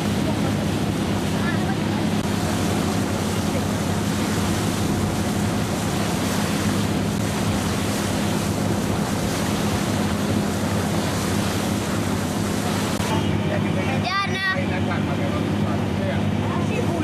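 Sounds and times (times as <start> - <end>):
boat engine drone: 0.0 - 17.0
water rushing past boats: 0.0 - 17.0.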